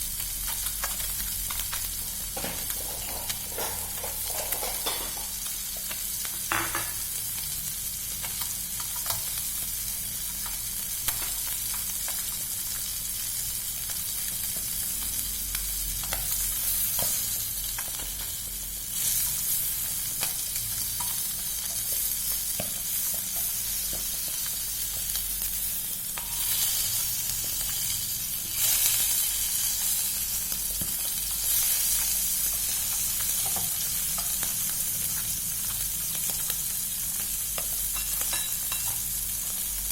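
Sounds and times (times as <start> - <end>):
food deep-frying in hot oil: 0.0 - 39.9.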